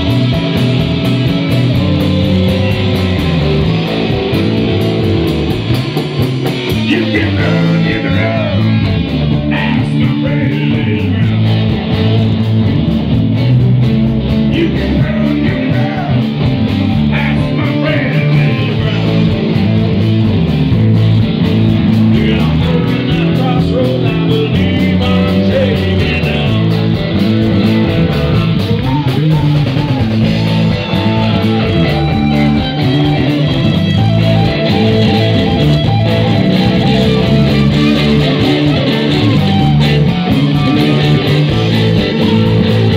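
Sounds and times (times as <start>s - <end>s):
drum kit: 0.0s - 42.9s
electric guitars: 0.0s - 42.9s.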